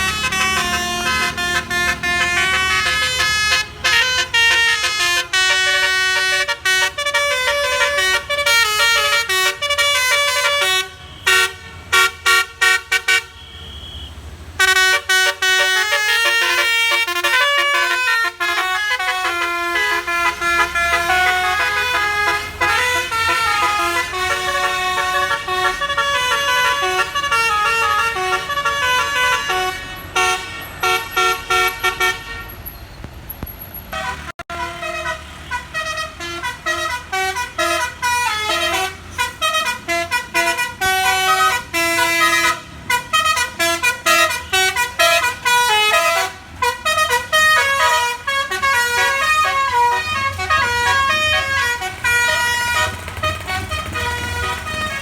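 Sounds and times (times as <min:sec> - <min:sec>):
bus horns playing a melody: 0:00.0 - 0:32.7, 0:33.9 - 0:55.0.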